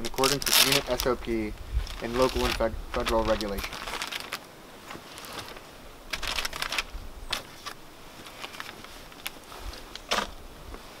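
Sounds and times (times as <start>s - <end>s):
rustles and scuffs of handling gear: 1.8s - 11.0s.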